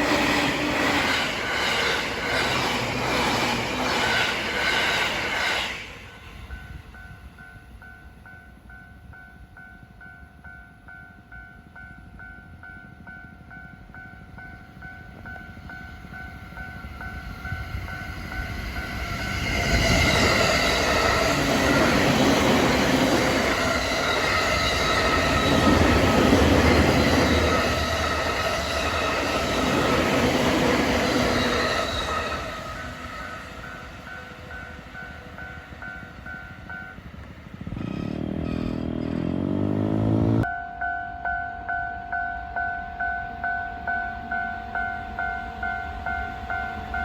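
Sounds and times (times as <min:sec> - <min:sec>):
train passing at high speed: 0:00.0 - 0:40.6, 0:41.7 - 0:47.0.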